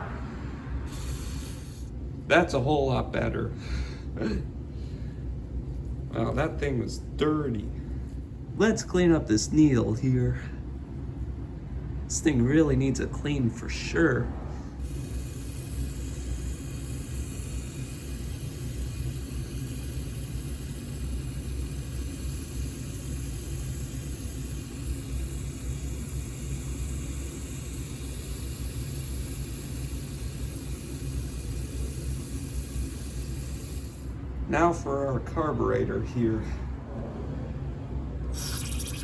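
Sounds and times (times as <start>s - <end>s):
low mechanical rumble: 0.0s - 39.0s.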